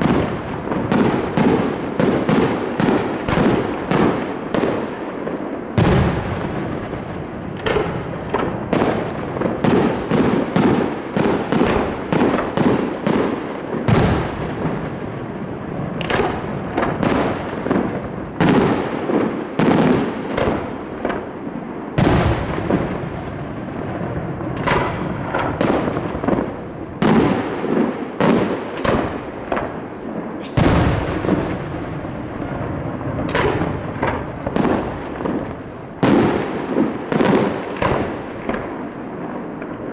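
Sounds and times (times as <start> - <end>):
deep firework booms: 0.0 - 39.9.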